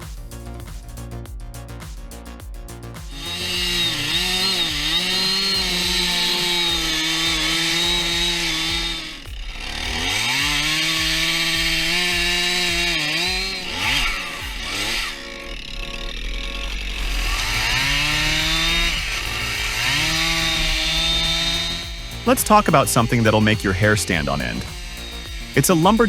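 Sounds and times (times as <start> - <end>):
music: 0.0 - 26.0
chainsaw cutting wood: 3.1 - 15.3, 17.0 - 26.0.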